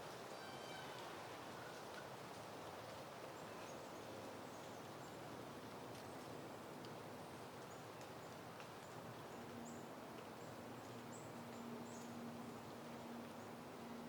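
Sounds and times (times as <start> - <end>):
soft wind hiss: 0.0 - 14.0.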